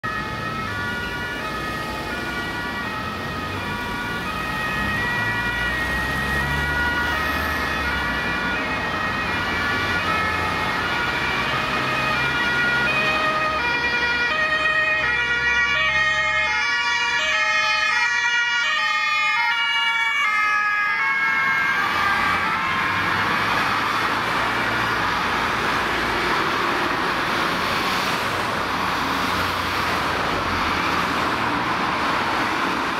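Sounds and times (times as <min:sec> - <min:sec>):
traffic: 0:00.0 - 0:32.9
two-tone emergency sirens: 0:00.0 - 0:32.9.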